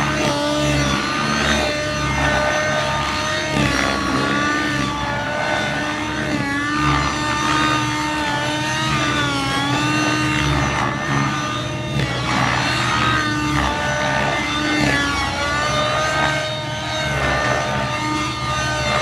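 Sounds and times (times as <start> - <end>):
rc helicopter engine whine: 0.0 - 19.0.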